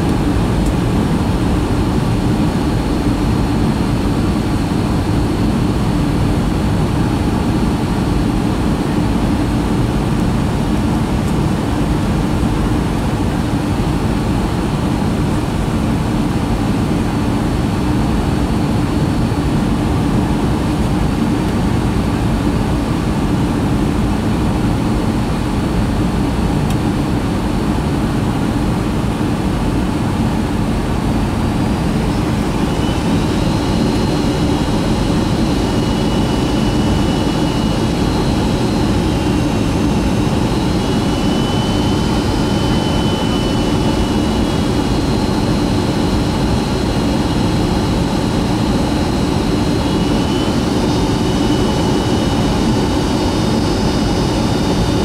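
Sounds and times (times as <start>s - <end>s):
faint high whine: 0.0s - 55.0s
jet engine and airflow rush: 0.0s - 55.0s.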